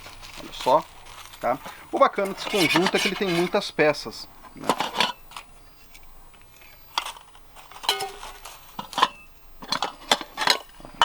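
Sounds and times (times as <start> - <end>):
metal pots clinking together: 0.0 - 11.0.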